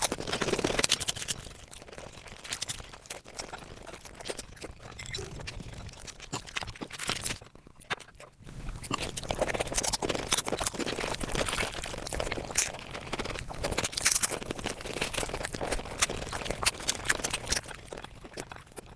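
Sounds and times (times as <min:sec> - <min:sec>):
fast chewing and smacking: 0:00.0 - 0:18.9.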